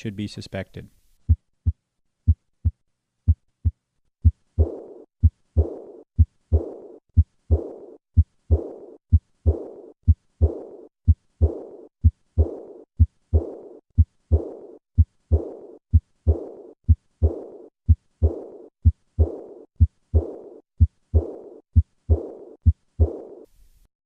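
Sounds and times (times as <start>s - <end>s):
heartbeat: 1.2s - 23.5s
blowing heart murmur: 1.3s - 23.4s.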